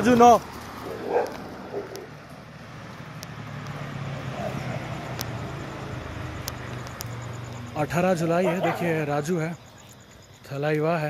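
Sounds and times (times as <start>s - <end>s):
vehicle engine hum: 0.0s - 10.4s
road noise: 0.0s - 11.0s.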